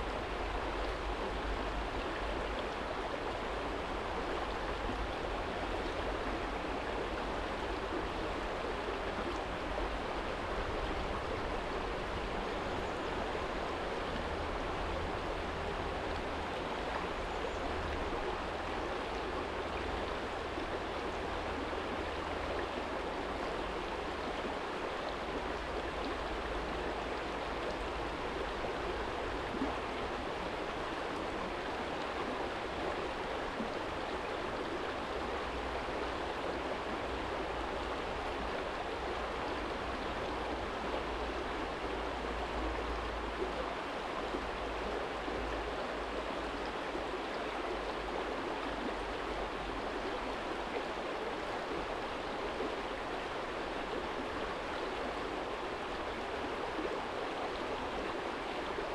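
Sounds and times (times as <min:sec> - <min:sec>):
stream flowing over stones: 0:00.0 - 0:58.9.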